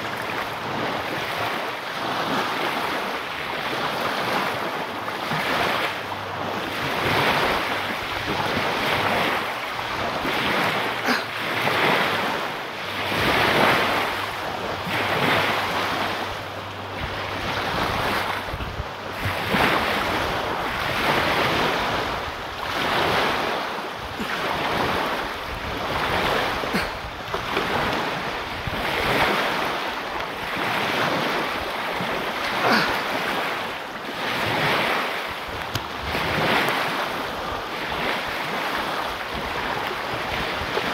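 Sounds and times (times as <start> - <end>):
surf washing onto beach: 0.0 - 40.9
wind on microphone: 0.0 - 40.9.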